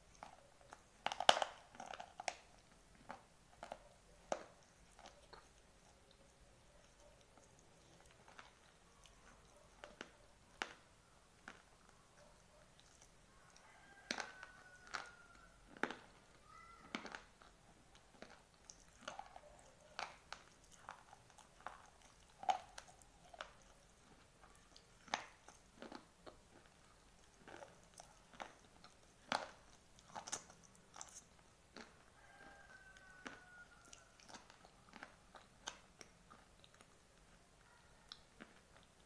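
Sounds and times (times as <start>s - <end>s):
slate pencils crunching in mouth: 0.0s - 11.7s, 12.8s - 37.4s
soft chewing: 0.0s - 39.0s.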